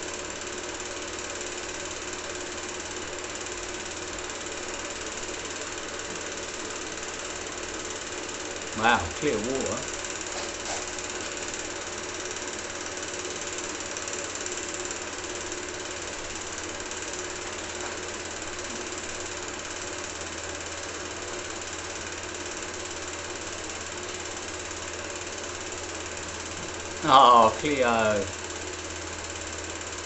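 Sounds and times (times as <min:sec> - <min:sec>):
film projector running: 0:00.0 - 0:30.0.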